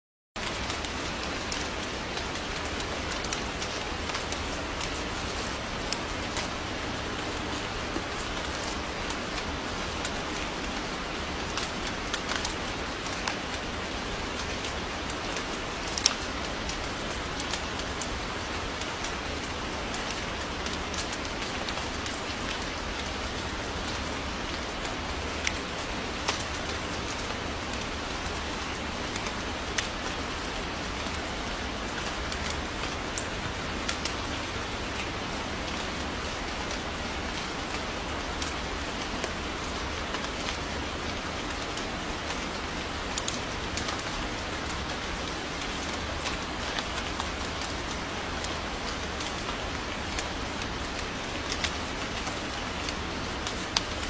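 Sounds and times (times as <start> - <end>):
steady rain falling: 0.4 - 54.0.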